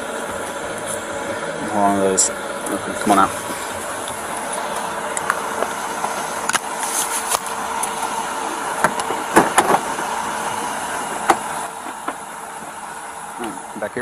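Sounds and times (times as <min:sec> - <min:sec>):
idling vehicles hum: 0:00.0 - 0:14.0.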